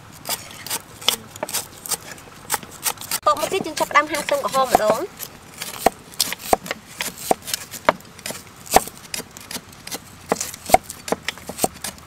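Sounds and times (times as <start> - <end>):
knife chopping on wooden board: 0.2 - 12.0.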